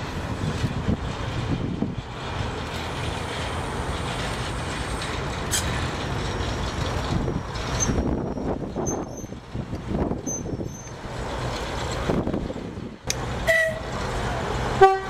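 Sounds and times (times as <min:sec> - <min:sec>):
diesel locomotive engines running: 0:00.0 - 0:15.0.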